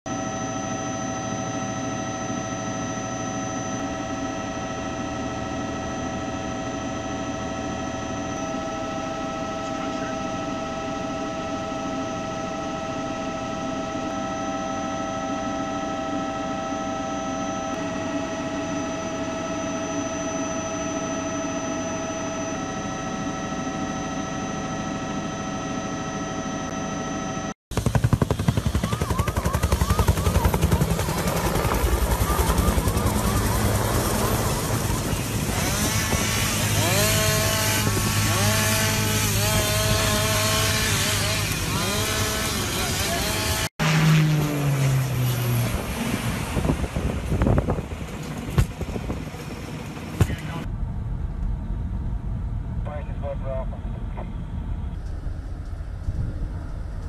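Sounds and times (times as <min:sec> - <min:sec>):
high whining tones: 0:00.1 - 0:27.6, 0:28.5 - 0:57.0
helicopter turbine and rotor drone: 0:00.1 - 0:57.0.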